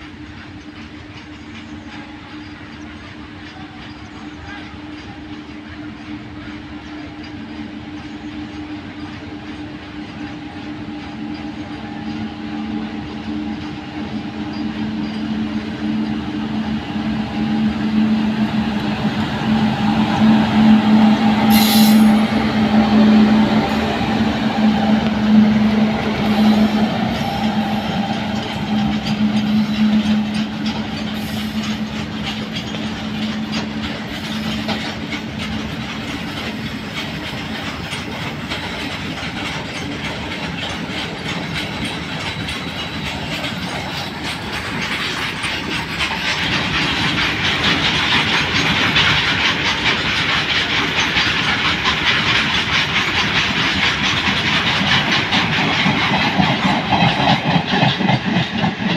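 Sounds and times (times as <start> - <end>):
electric locomotive hum: 0.0 - 58.9
wagon wheels clacking on rails: 0.0 - 58.9.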